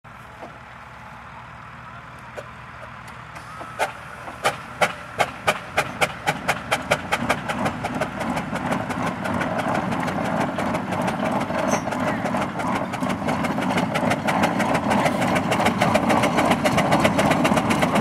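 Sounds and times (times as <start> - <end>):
steam roller exhaust chuffs: 0.1 - 18.0.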